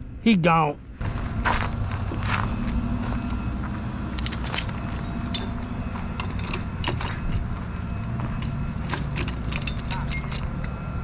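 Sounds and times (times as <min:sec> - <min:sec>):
low rumble: 0:00.8 - 0:11.0.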